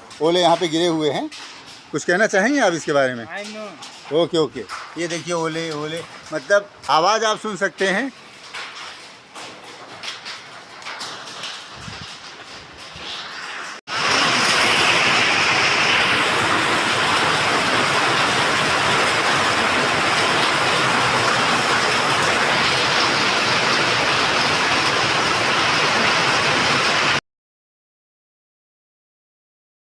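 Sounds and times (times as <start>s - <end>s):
hail and heavy rain falling: 0.0s - 27.2s.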